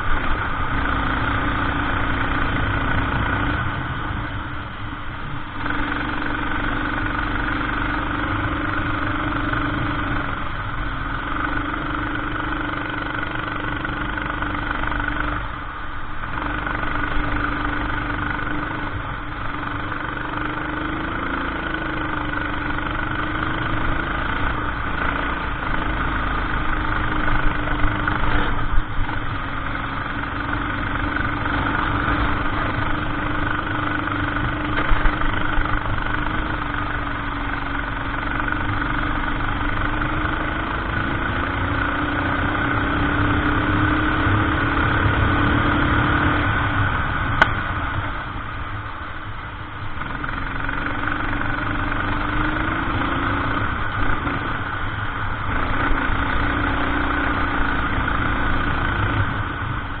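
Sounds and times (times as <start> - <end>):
kart engine revving: 0.0 - 4.5, 5.4 - 15.4, 16.3 - 48.1, 50.0 - 60.0.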